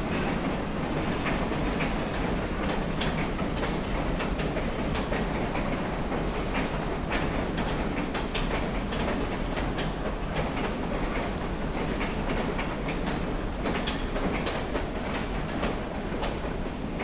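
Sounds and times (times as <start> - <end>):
wheels clacking over rail joints: 0.0 - 17.0.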